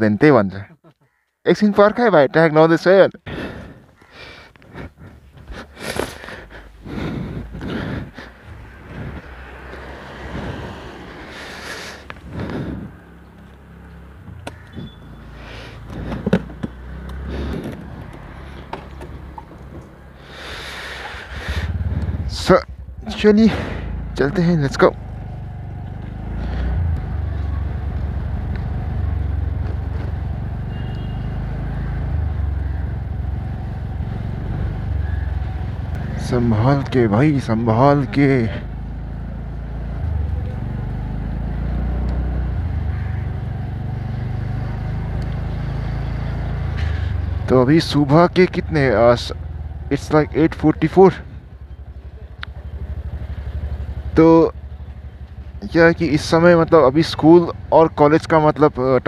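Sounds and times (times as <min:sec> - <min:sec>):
road noise: 0:00.0 - 0:59.0
scooter engine droning: 0:03.3 - 0:59.0.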